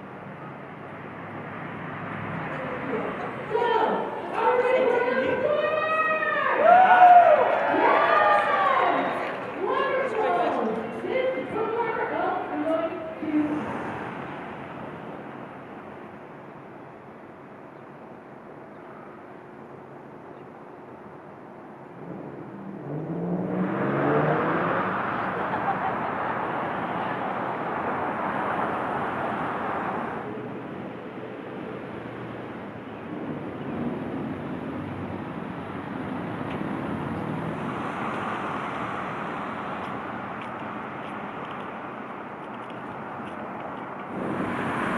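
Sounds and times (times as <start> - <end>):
distant traffic: 0.0 - 44.9
vehicle passing: 0.6 - 16.0, 22.0 - 30.7, 31.8 - 44.9.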